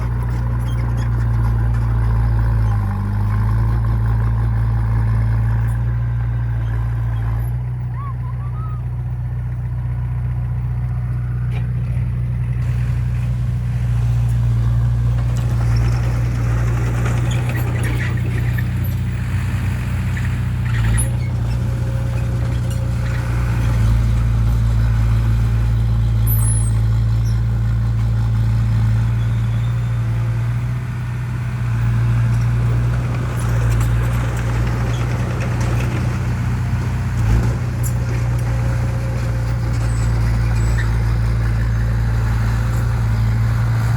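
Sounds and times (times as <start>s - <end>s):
diesel engine droning: 0.0s - 43.9s.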